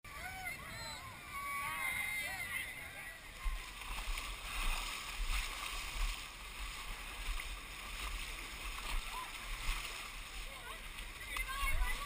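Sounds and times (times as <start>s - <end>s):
wading through muddy water: 0.1s - 12.0s.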